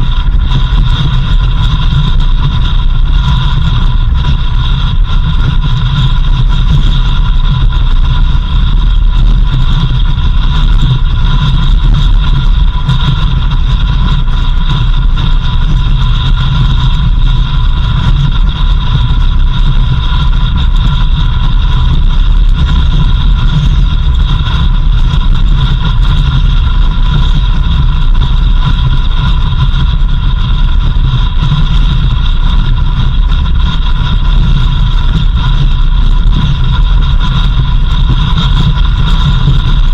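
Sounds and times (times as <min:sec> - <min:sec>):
high-pitched whine: 0:00.0 - 0:39.9
vehicle engine and road rumble: 0:00.0 - 0:39.9.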